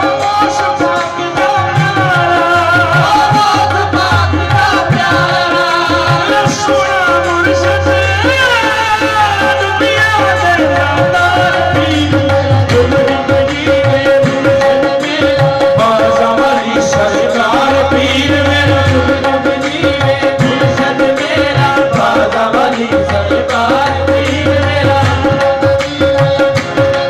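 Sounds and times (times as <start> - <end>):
hand drum percussion: 0.0 - 27.0
harmonium drone: 0.0 - 27.0
lead vocalist and male chorus singing: 0.0 - 27.0.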